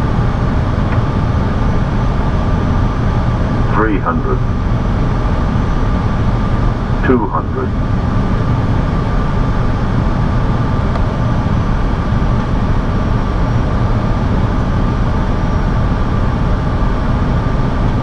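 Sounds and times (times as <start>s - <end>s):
aircraft engine noise: 0.0s - 18.0s.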